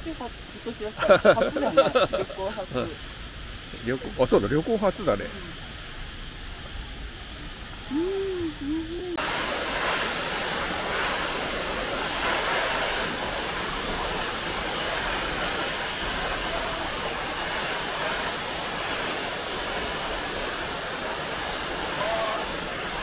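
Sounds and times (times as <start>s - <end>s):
waterfall rushing onto rocks: 0.0s - 23.0s.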